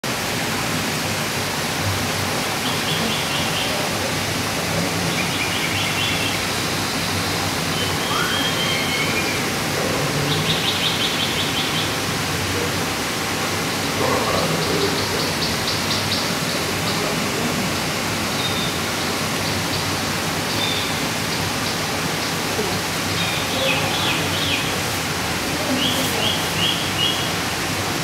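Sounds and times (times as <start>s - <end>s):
steady water-like rushing: 0.0s - 28.0s.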